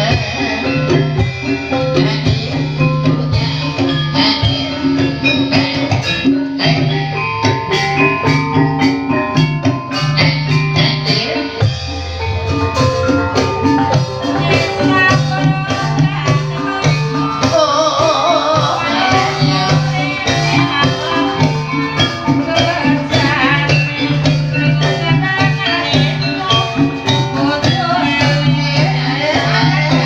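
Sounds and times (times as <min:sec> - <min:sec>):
gamelan ensemble playing: 0:00.0 - 0:30.0
wavering high melody: 0:00.0 - 0:30.0.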